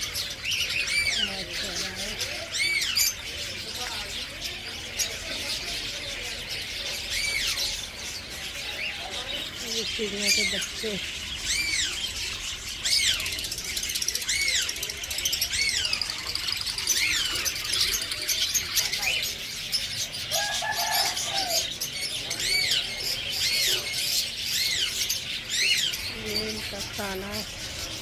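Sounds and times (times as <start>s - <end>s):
birds twittering: 0.0s - 28.0s.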